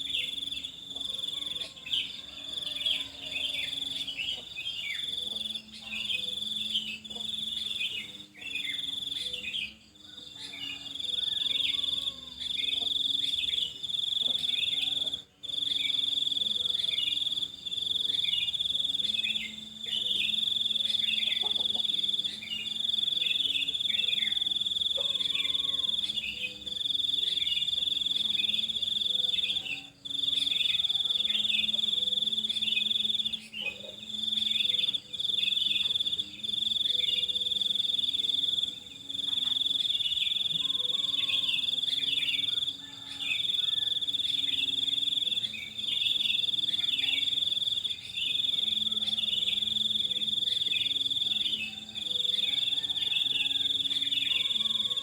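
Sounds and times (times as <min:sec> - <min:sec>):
birds chirping: 0:00.0 - 0:55.0
cricket trilling: 0:00.0 - 0:55.0.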